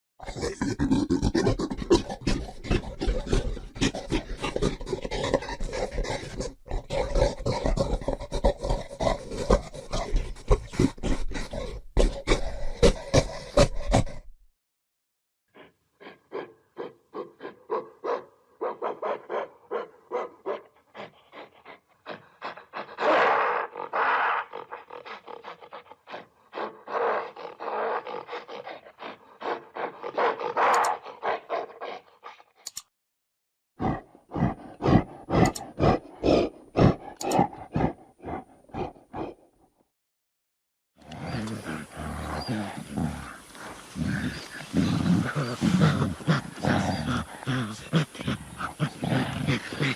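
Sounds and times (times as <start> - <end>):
gorilla grunting rhythmically: 0.2 - 14.3, 15.5 - 32.8, 33.8 - 39.6, 41.0 - 49.9.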